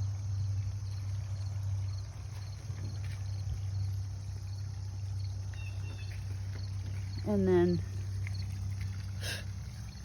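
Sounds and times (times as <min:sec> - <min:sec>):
crickets chirping: 0:00.0 - 0:10.0
steady low hum: 0:00.0 - 0:10.0.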